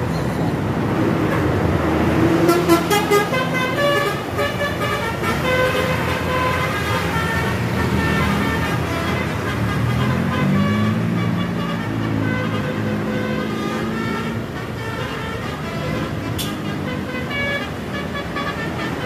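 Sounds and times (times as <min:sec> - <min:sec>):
engine and traffic noise: 0:00.0 - 0:19.0
bus horn playing a tune: 0:02.3 - 0:19.0.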